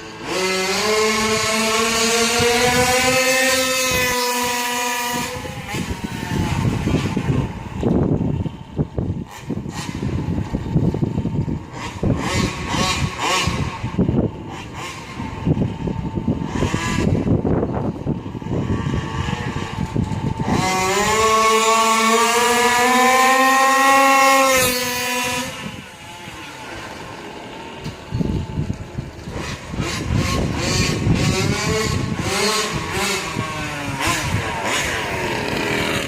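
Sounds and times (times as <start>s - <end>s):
two-stroke engine revving: 0.0s - 36.0s.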